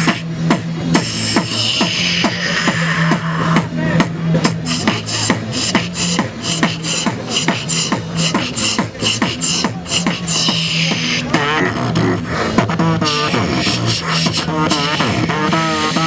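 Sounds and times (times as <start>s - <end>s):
beatboxing through microphone: 0.0s - 16.0s.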